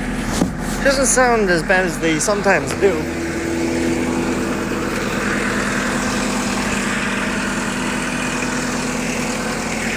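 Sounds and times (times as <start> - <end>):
diesel engine running: 0.0 - 9.9.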